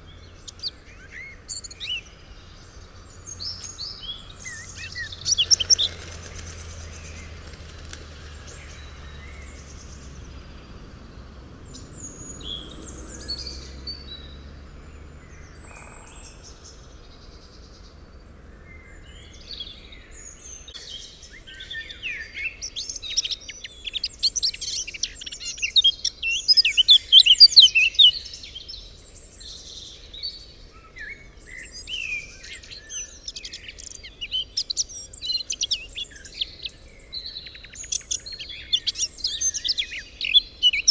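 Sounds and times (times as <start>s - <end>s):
small birds chirping and singing: 0.0s - 40.9s.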